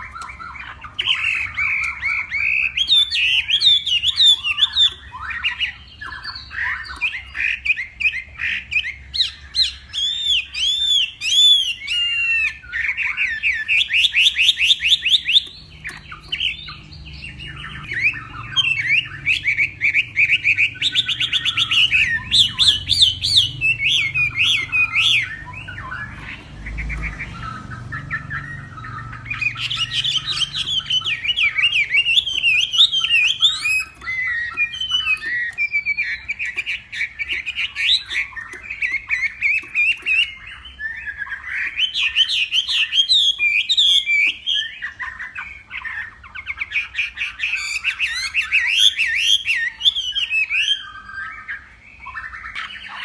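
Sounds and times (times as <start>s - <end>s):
bird singing warbling phrases: 0.0s - 53.0s.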